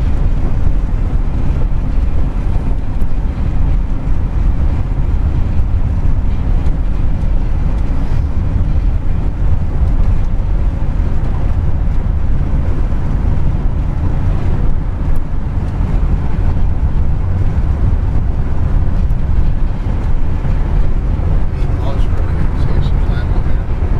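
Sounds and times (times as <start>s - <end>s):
car road and wind noise: 0.0s - 23.9s.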